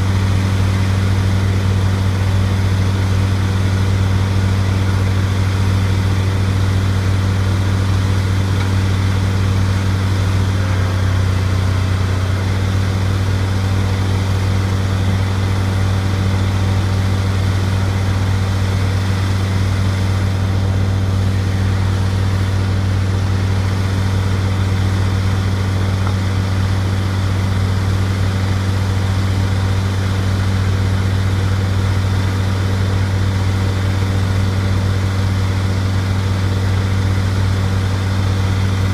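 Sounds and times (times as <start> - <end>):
loader engine running steadily: 0.0 - 38.9.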